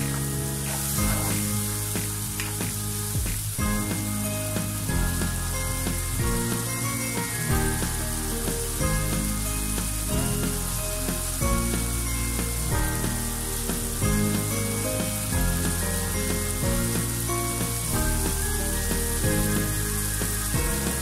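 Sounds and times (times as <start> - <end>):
background music with deep bass: 0.0 - 21.0
masala sizzling in a wok: 0.0 - 21.0.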